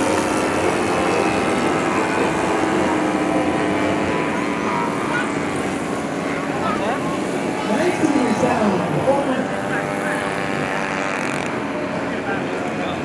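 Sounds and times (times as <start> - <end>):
model airplane engines droning: 0.0 - 13.0.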